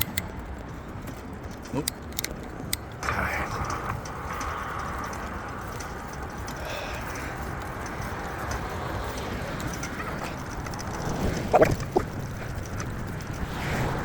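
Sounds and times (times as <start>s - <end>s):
bicycle road noise: 0.0s - 14.0s
faint ticks: 0.0s - 14.0s
wind buffeting microphone: 0.0s - 14.0s.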